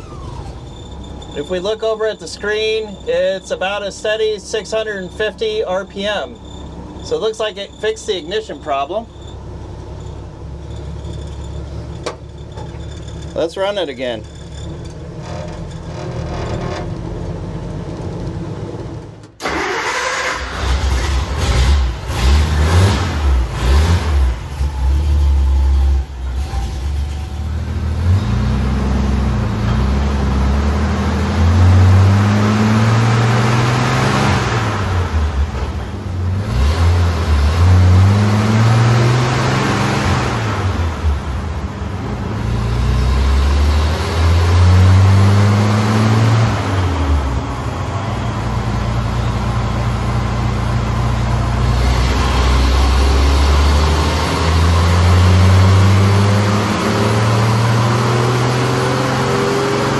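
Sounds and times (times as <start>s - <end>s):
engine revving: 0.0s - 9.2s, 9.9s - 59.9s.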